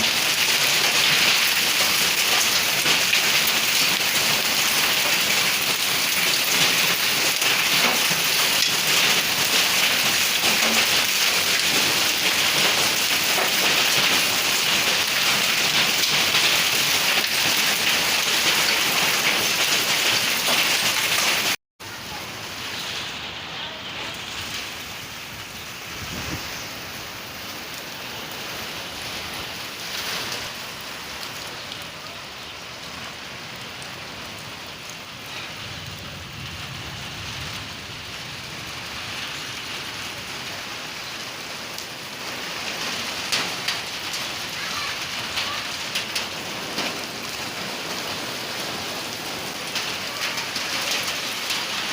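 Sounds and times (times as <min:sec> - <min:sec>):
heavy rain and hail: 0:00.0 - 0:51.9.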